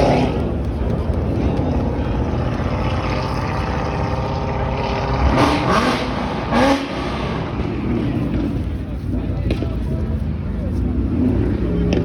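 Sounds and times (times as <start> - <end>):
car engine running loudly: 0.0 - 12.0.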